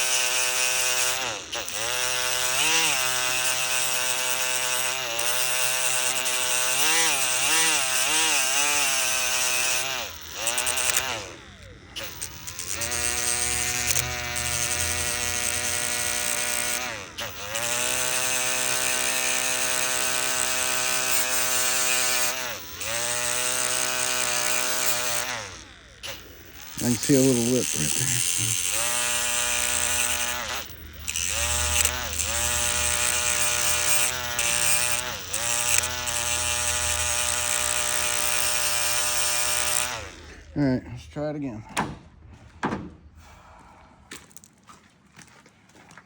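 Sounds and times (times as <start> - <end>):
electric grinder whining on metal: 0.0 - 40.7.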